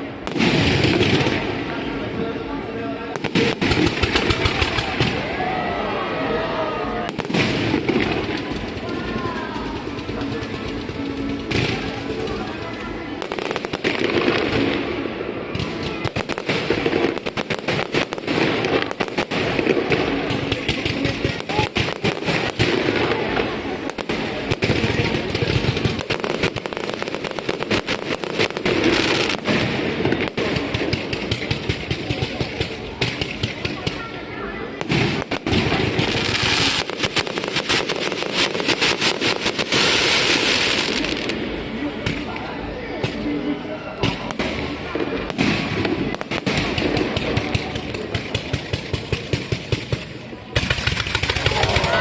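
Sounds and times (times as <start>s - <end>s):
fireworks crackling: 0.0s - 52.0s
fireworks booms: 0.2s - 2.1s, 3.1s - 5.5s, 7.0s - 34.2s, 34.8s - 42.4s, 44.0s - 52.0s.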